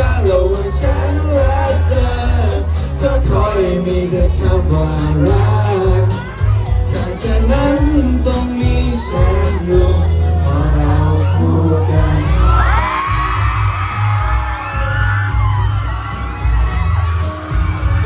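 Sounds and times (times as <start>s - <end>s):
fans screaming: 0.0s - 18.0s
live pop song through a pa: 0.0s - 18.0s.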